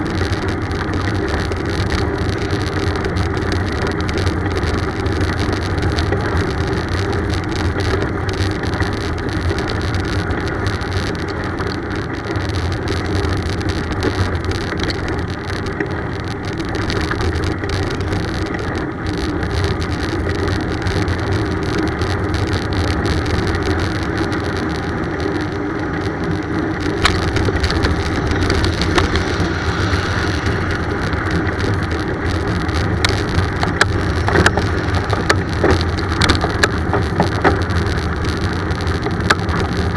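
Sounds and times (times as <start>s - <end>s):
bicycle road noise: 0.0s - 39.9s.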